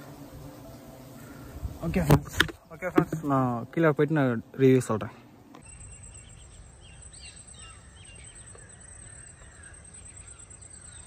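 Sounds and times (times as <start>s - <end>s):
birds chirping: 0.0s - 11.0s
steady high-pitched whine: 0.0s - 11.0s.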